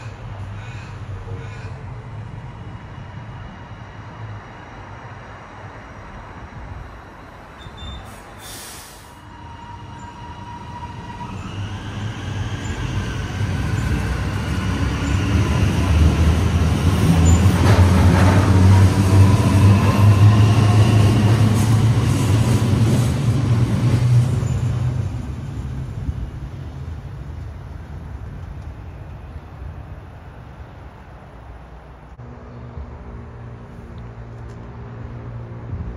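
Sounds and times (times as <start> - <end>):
train rumbling past: 0.0 - 35.9.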